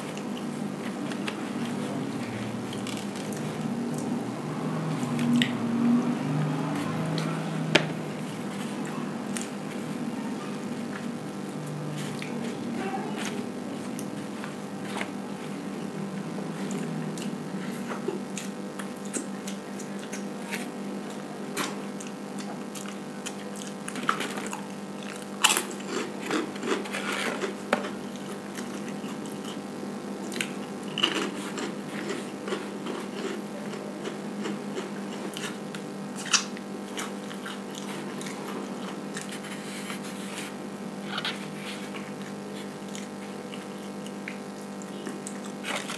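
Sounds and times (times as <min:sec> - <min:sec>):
person chewing with crunches: 0:00.0 - 0:45.9
steady low hum: 0:00.0 - 0:45.9.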